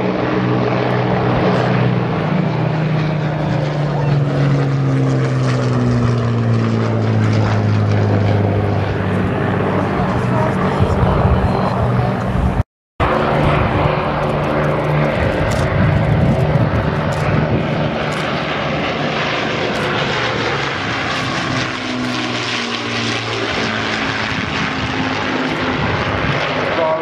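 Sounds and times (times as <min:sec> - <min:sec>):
propeller aircraft engines droning: 0:00.0 - 0:27.0.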